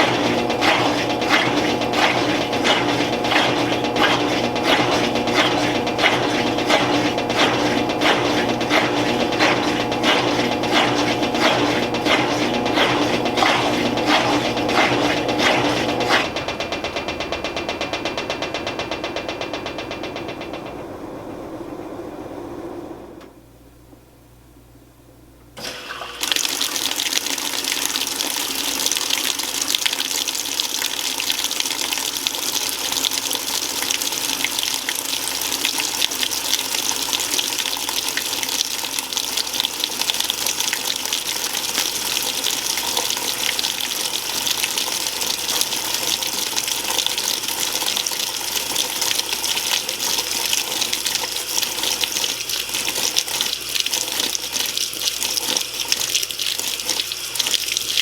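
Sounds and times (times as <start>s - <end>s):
water spraying into washing machine: 0.0s - 23.3s, 25.6s - 58.0s.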